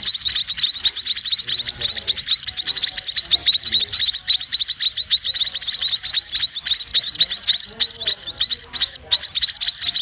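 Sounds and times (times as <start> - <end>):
chicks chirping shrilly: 0.0 - 10.0.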